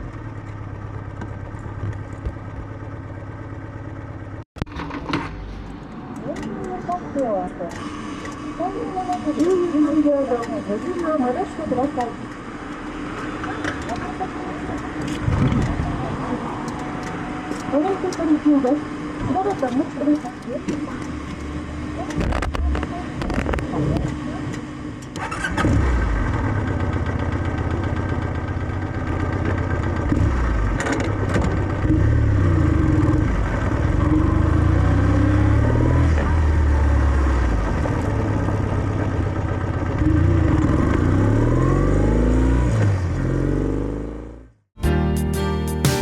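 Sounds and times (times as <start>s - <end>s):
motorcycle engine revving: 1.6s - 44.7s.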